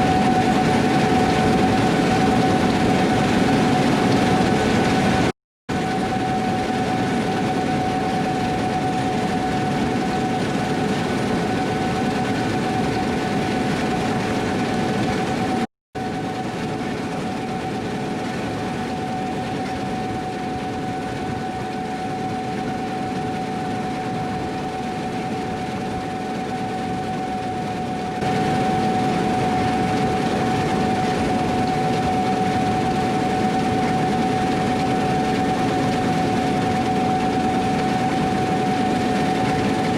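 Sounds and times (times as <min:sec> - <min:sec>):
combine harvester drone: 0:00.0 - 0:39.9
high machine whine: 0:00.0 - 0:39.9.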